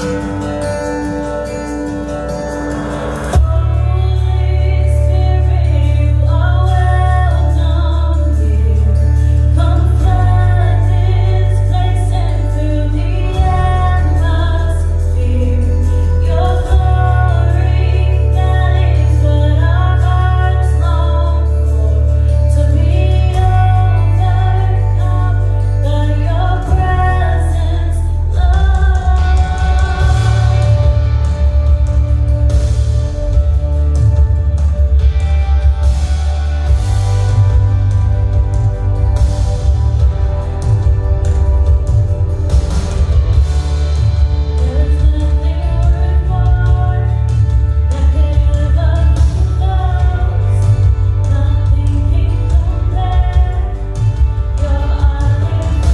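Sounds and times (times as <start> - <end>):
steady bass line: 0.0 - 55.9.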